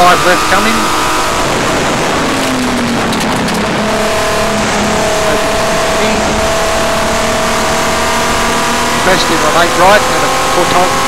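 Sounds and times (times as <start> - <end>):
car engine running hard: 0.0 - 11.0
road and wind noise: 0.0 - 11.0.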